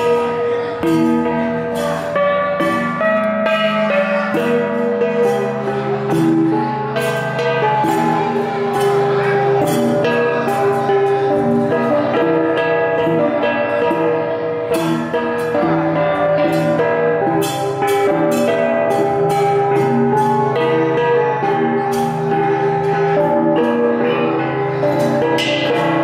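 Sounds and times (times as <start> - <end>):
gong ensemble playing: 0.0 - 26.0.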